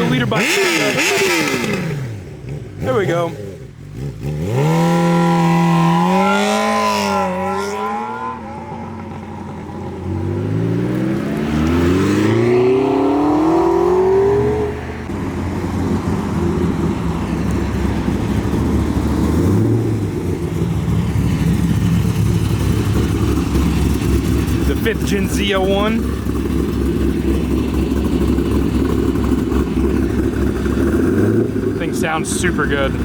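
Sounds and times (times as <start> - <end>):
loud car engine revving: 0.0 - 33.0
rough engine rumble: 0.0 - 33.0.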